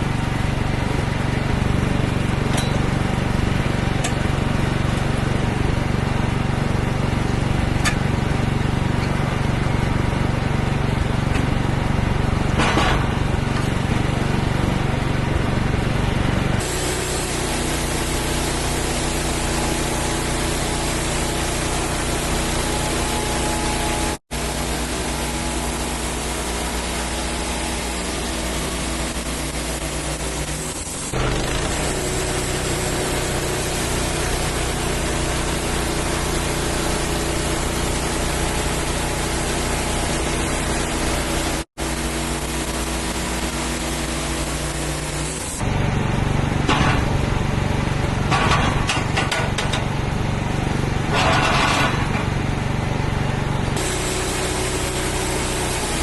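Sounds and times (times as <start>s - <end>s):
band sawmill cutting log: 0.0s - 56.0s
engine humming: 0.0s - 56.0s.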